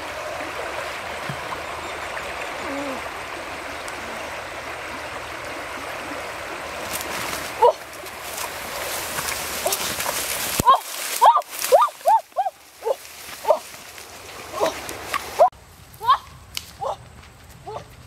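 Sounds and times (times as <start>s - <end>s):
river water rushing: 0.0s - 15.5s.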